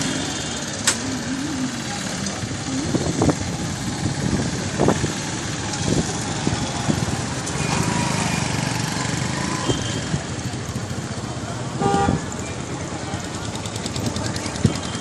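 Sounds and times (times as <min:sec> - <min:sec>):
small motorcycle engines: 0:00.0 - 0:15.0
street traffic: 0:00.0 - 0:15.0.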